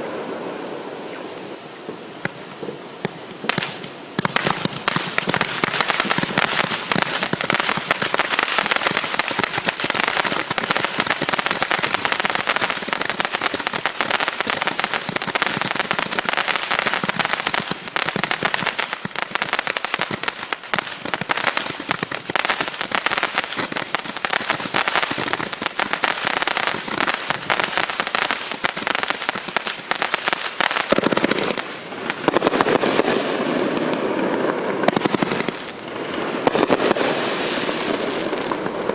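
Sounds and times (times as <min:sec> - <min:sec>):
rapid fireworks shots and crackle: 0:02.2 - 0:38.9.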